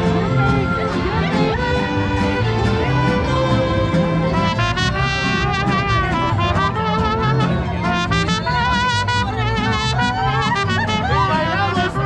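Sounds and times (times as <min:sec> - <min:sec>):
mariachi band playing: 0:00.0 - 0:12.0.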